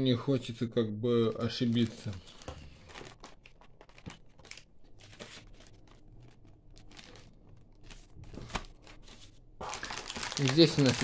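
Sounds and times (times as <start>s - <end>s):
plastic bags crinkling: 1.4s - 11.0s.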